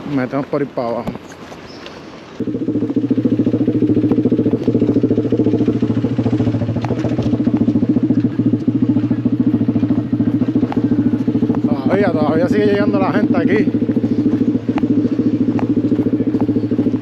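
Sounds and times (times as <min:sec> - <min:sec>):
engine idling: 0:02.4 - 0:17.0.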